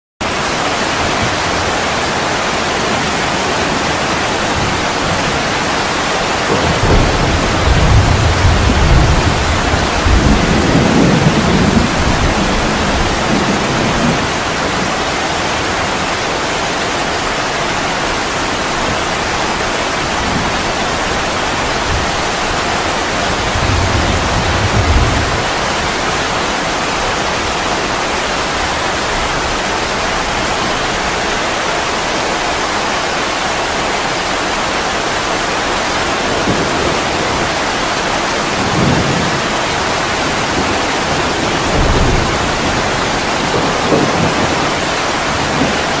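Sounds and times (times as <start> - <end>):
heavy rain: 0.2 - 46.0
water pouring off a roof: 0.2 - 46.0.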